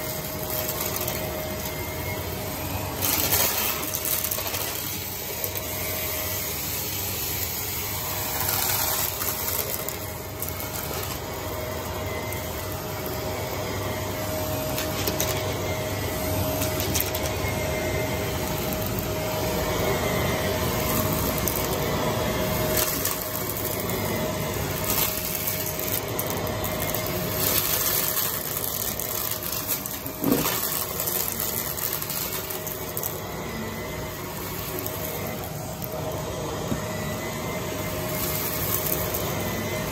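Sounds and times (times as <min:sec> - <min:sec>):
debris rattling through vacuum: 0:00.0 - 0:06.3, 0:07.3 - 0:39.9
vacuum cleaner running: 0:00.0 - 0:39.9.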